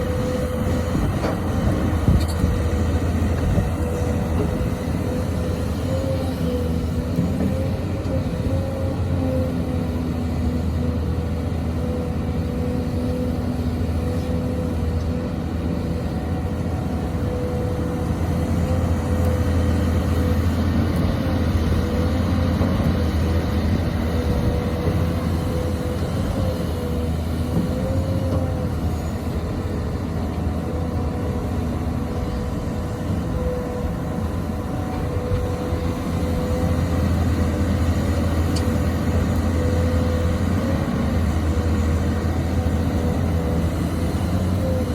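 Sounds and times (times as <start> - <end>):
excavator diesel engine droning: 0.0 - 44.9.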